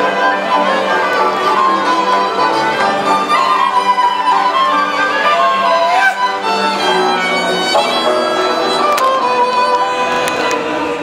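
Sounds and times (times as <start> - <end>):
folk band with fiddles: 0.0 - 11.0.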